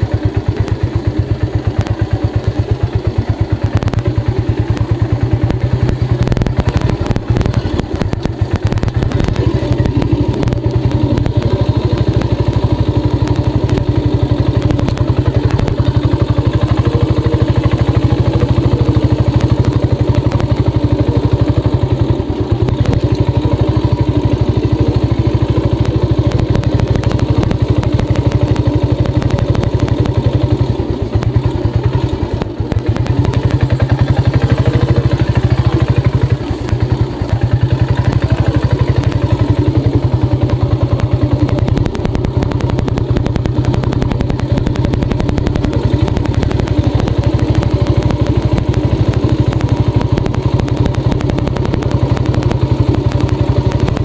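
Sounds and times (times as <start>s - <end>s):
motorcycle engine running with clatter: 0.0s - 54.0s.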